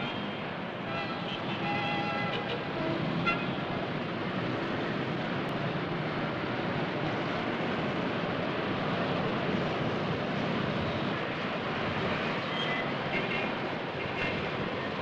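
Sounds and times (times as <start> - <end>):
dense traffic passing: 0.0 - 15.0.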